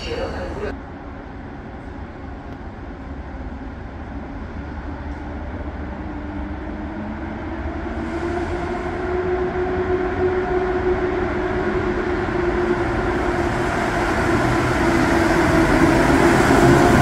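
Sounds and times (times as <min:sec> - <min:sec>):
train rumbling with humming tone: 0:00.0 - 0:17.0.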